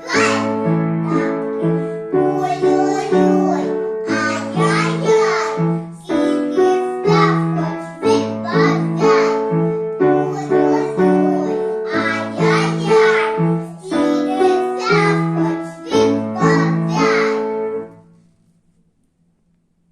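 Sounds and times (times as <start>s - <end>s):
children singing: 0.0s - 17.6s.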